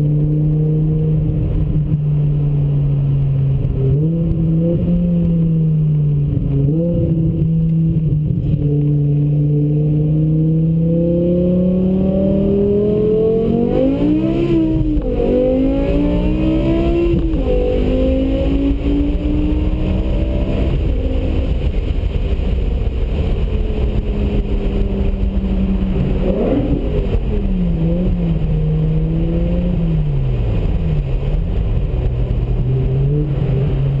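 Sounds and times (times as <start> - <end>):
car engine heard from cabin: 0.0 - 34.0
road and wind rumble: 0.0 - 34.0.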